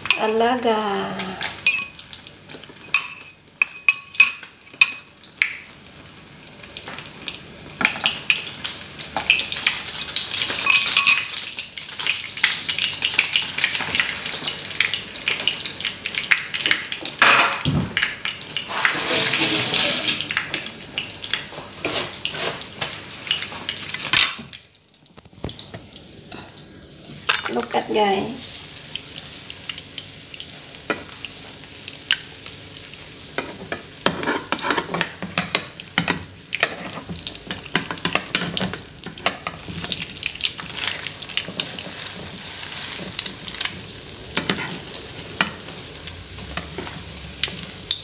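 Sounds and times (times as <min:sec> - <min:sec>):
bread sizzling in a pan: 0:00.0 - 0:48.0.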